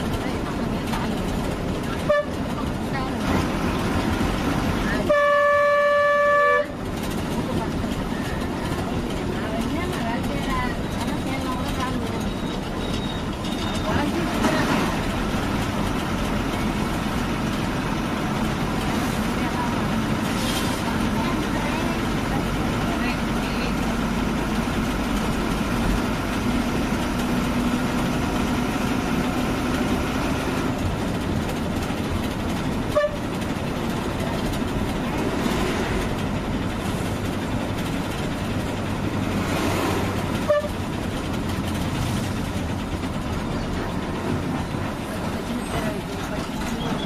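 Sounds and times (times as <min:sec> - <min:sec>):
bus engine and road noise: 0:00.0 - 0:47.0.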